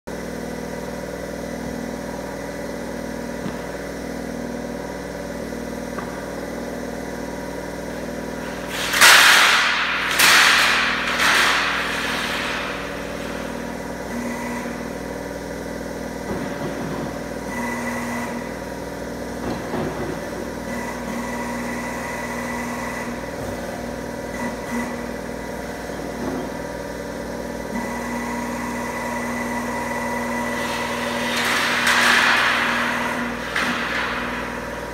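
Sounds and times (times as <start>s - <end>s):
bending machine humming: 0.1s - 34.9s.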